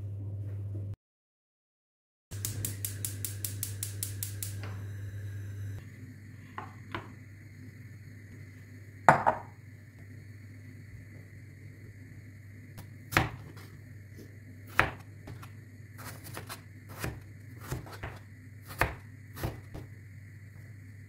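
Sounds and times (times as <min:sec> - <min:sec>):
low hum: 0:00.0 - 0:01.0, 0:02.3 - 0:21.0.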